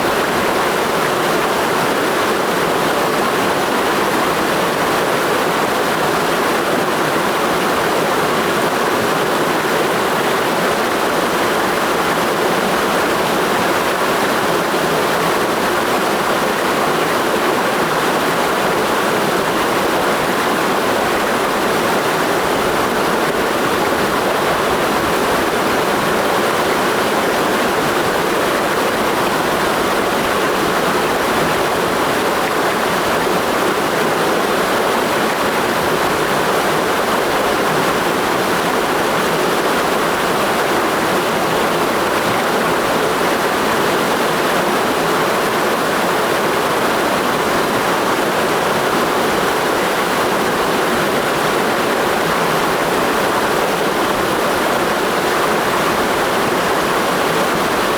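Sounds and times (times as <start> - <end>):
stream rushing over rocks: 0.0 - 57.9.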